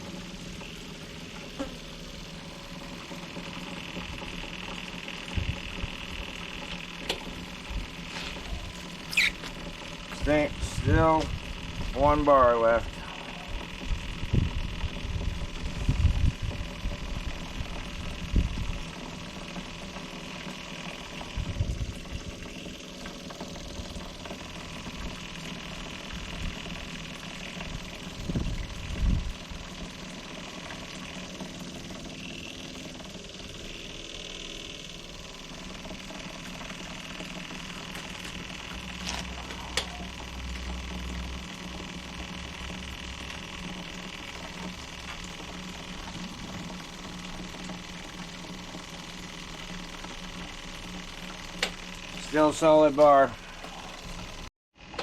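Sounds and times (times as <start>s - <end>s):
electric fuel pump running: 0.0s - 55.0s.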